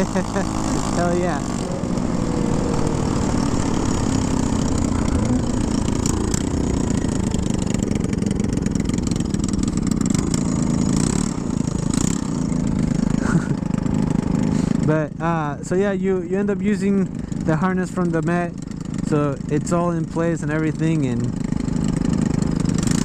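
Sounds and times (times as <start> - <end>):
scooter engines running: 0.0 - 23.0.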